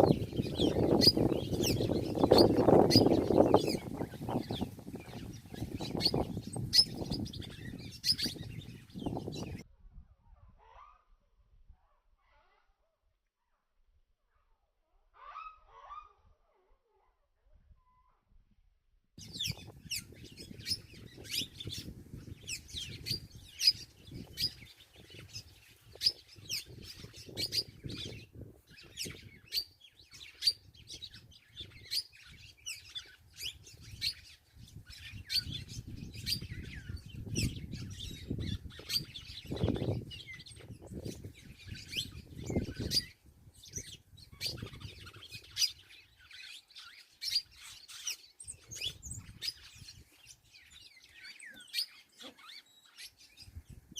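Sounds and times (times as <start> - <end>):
birds chirping: 0.0 - 9.6, 19.2 - 53.9.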